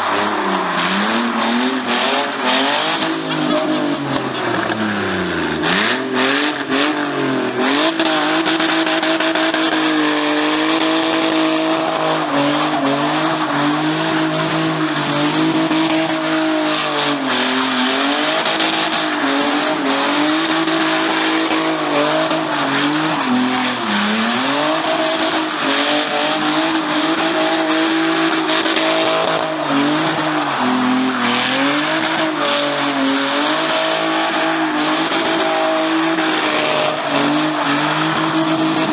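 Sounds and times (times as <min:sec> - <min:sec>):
tyres squealing: 0:00.0 - 0:06.7, 0:08.3 - 0:38.9
car engine revving high: 0:00.0 - 0:38.9.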